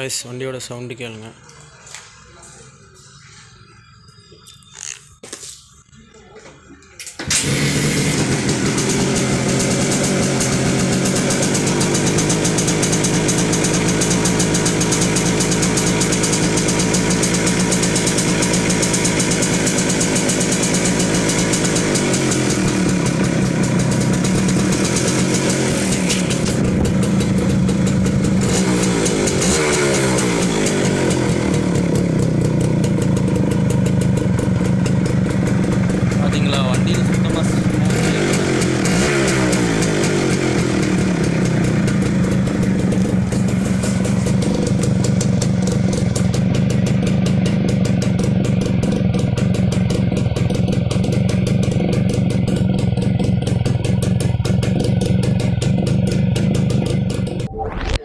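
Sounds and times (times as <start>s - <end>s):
engine throttle blips: 6.7s - 58.0s
two-stroke engine idling: 7.1s - 57.5s.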